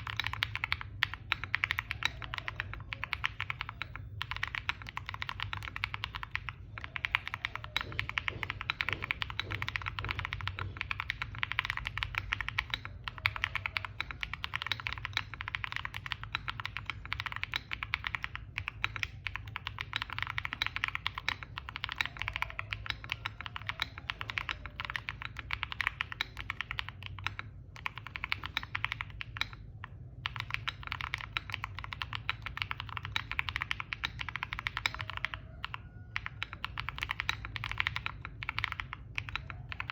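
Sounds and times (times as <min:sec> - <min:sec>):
mechanical keyboard key clacks: 0:00.0 - 0:39.9.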